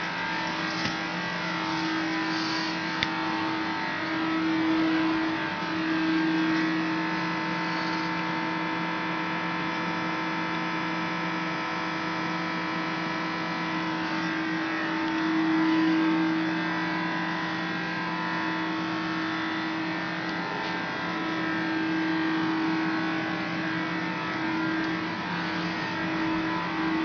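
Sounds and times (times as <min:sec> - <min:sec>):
heavy workshop machinery humming: 0:00.0 - 0:27.0.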